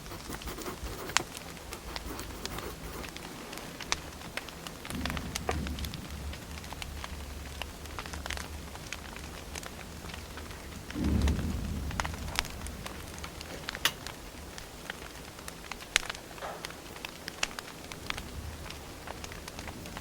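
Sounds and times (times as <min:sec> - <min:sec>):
firewood crackling and popping: 0:00.0 - 0:20.0
low fire rumble: 0:00.0 - 0:20.0.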